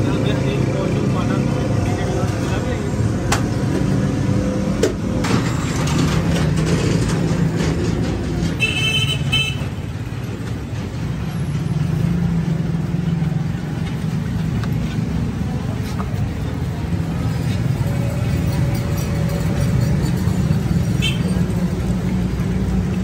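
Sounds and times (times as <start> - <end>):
street traffic rumbling: 0.0 - 23.0.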